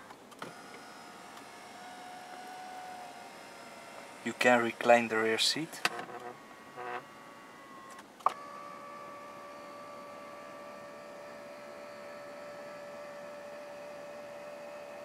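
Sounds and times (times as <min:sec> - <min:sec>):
seat motors whining: 0:00.0 - 0:15.0.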